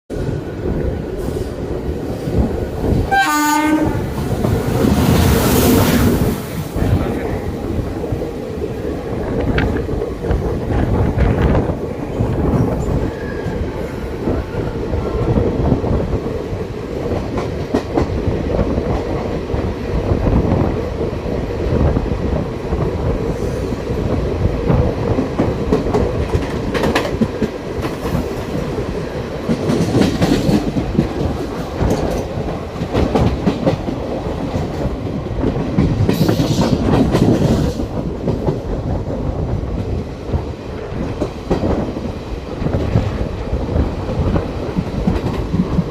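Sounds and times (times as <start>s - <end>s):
train wheels clattering over rails: 0.6s - 20.7s, 21.8s - 45.9s.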